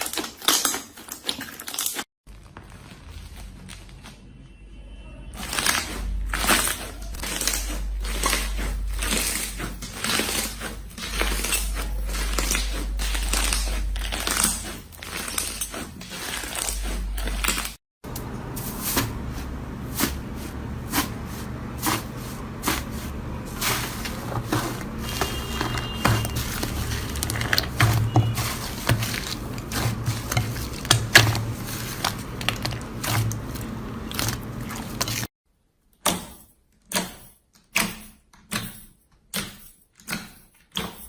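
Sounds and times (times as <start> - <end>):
crunching and crackling clicks: 0.0 - 4.4, 5.3 - 35.3.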